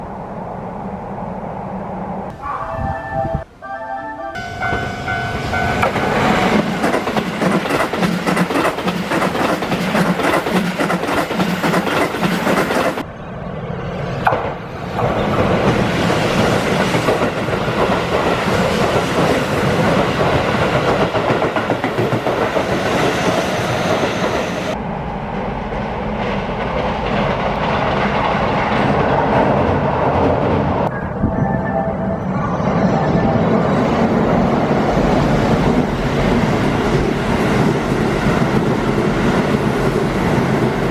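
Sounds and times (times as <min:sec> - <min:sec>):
electric train passing: 0:00.0 - 0:40.9.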